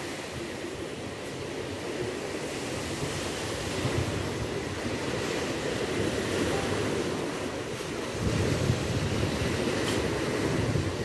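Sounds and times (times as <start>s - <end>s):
small waves breaking on shore: 0.0s - 11.0s
wind rumbling on microphone: 0.0s - 11.0s.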